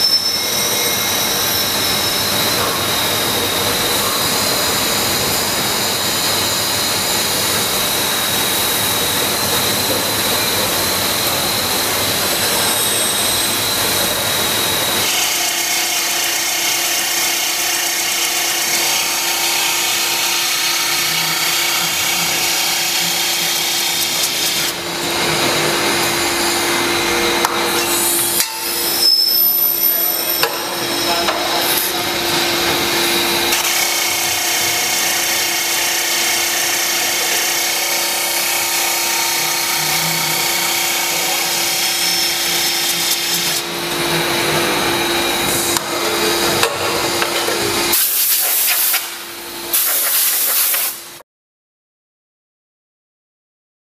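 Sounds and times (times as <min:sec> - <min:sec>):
grinder grinding steel: 0:00.0 - 0:51.0.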